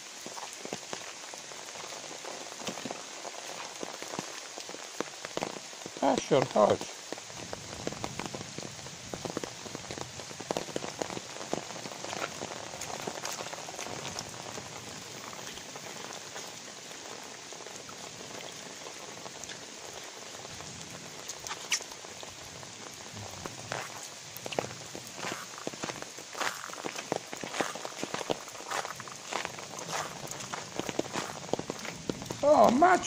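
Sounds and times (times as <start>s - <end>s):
light rain pattering: 0.0s - 33.0s.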